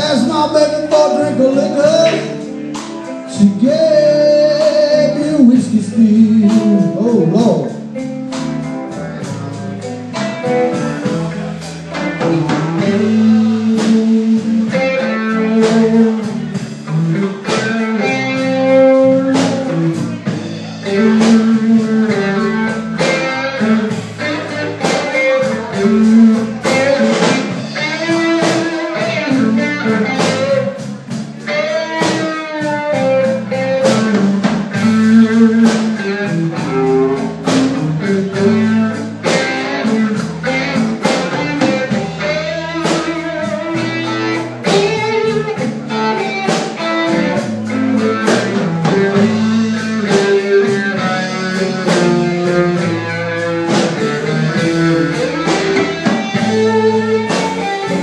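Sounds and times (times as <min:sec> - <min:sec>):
bass and drums beat: 0:00.0 - 0:58.0
blues band playing: 0:00.0 - 0:58.0
electric guitar lines: 0:00.0 - 0:58.0.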